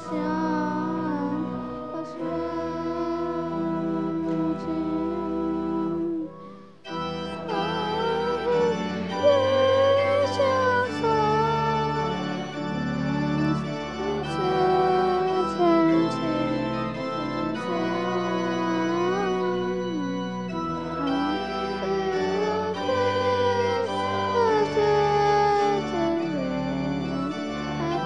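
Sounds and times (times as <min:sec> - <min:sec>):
church organ playing: 0:00.0 - 0:28.0.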